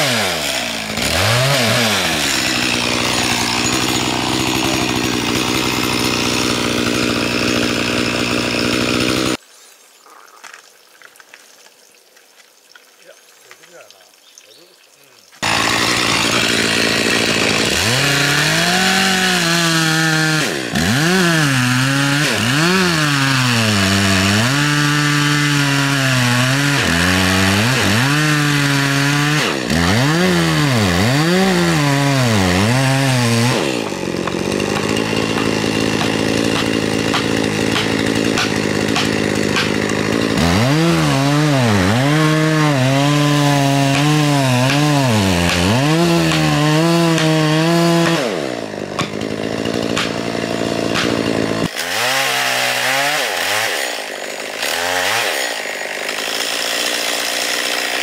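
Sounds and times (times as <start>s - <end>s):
chainsaw cutting wood: 0.0s - 9.4s, 15.4s - 58.0s.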